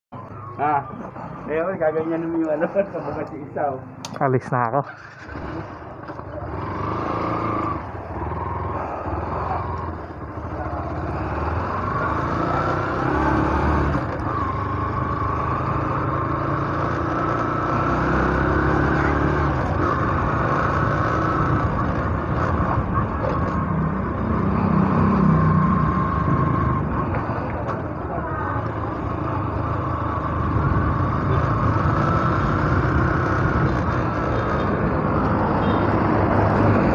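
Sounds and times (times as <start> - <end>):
road and wind noise: 0.1 - 36.9
motorcycle engine running: 4.9 - 36.9.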